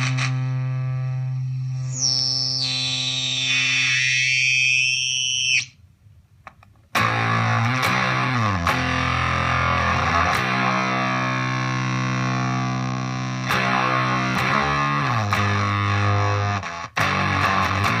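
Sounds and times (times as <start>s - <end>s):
fuzzed electric guitar notes: 0.0s - 4.9s, 7.0s - 18.0s.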